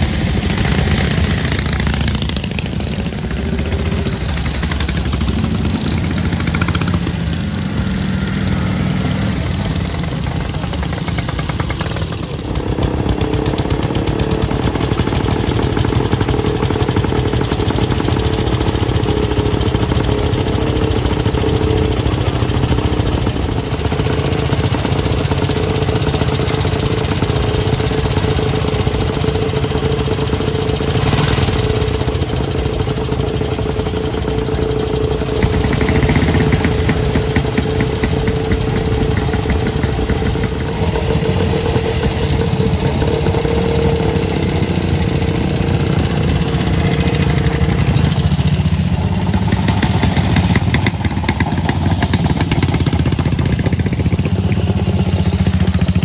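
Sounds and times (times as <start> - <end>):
motorcycle engine idling: 0.0 - 56.0
motorcycle engine revving: 0.0 - 56.0.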